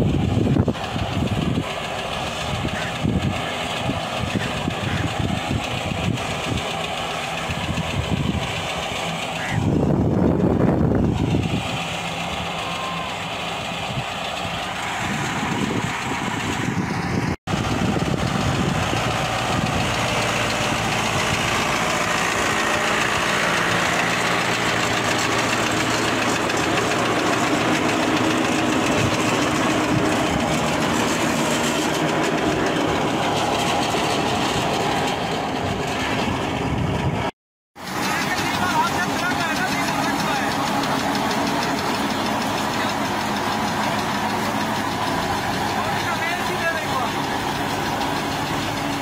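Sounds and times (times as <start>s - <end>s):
potato digger working noise: 0.0s - 49.0s
tractor diesel engine under load: 0.0s - 49.0s.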